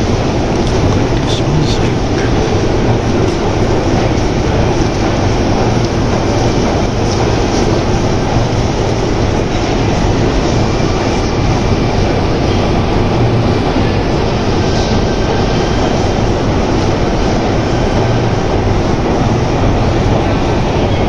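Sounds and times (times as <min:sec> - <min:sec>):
metro train rumbling: 0:00.0 - 0:21.0.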